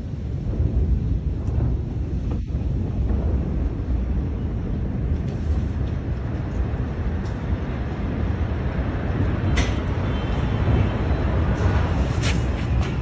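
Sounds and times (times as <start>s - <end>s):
low explosion rumble: 0.0s - 11.9s
wind buffeting microphone: 0.0s - 13.0s.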